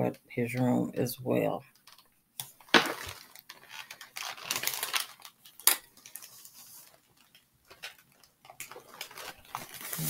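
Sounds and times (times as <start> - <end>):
packaging being handled: 1.8 - 10.0.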